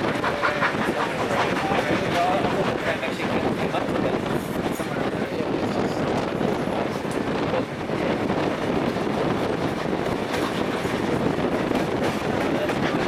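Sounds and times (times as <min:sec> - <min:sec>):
train carriage rumbling: 0:00.0 - 0:13.0.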